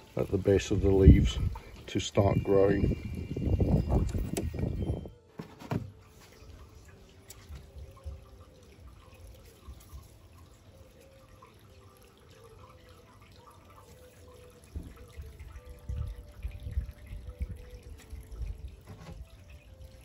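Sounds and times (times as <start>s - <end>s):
faint dripping water: 0.0s - 5.1s, 6.0s - 20.0s.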